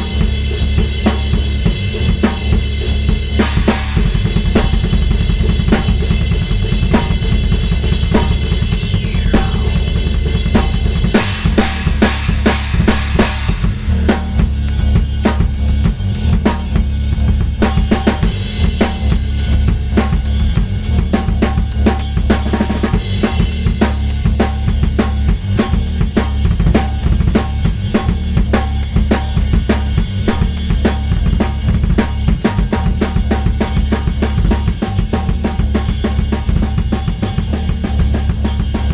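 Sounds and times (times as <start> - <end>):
drum kit playing fast: 0.0 - 38.9.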